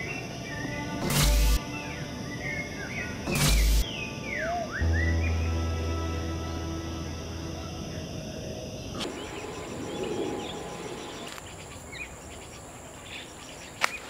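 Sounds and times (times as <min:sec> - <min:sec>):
birds chirping: 0:00.0 - 0:05.7, 0:07.6 - 0:14.0
low music drone: 0:00.0 - 0:11.4
insect chirping: 0:00.0 - 0:14.0.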